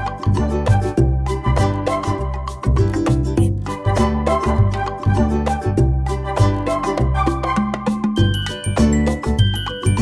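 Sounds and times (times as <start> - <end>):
latin-style background music: 0.0 - 10.0.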